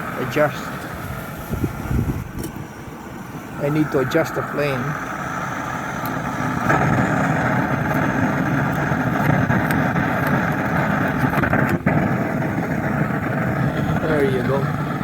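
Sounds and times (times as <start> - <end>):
hot oil crackling: 0.0 - 15.0
roar of forced-draft flame: 0.0 - 15.0.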